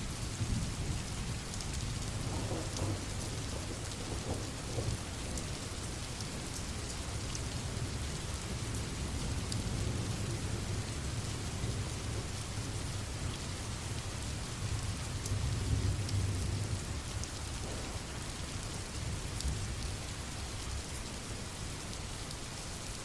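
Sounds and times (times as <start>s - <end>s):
steady rain: 0.0s - 23.0s
low rumble of thunder: 0.1s - 21.6s.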